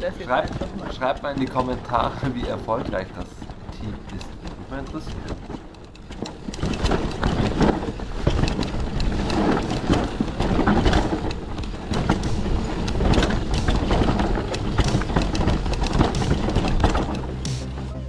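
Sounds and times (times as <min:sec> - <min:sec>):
bike knocks and rattles: 0:00.0 - 0:18.0
tyres crunching over dirt and stones: 0:00.0 - 0:18.0.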